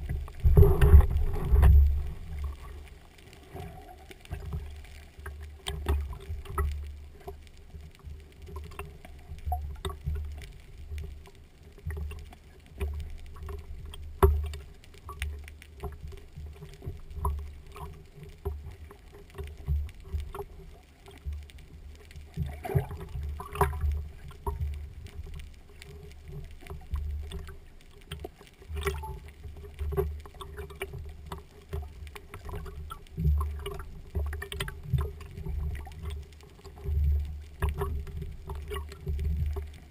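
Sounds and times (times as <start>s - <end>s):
faint steady hum: 0.0s - 39.9s
low rumble of water movement: 0.0s - 39.9s
small clicks and crackles: 0.0s - 39.9s.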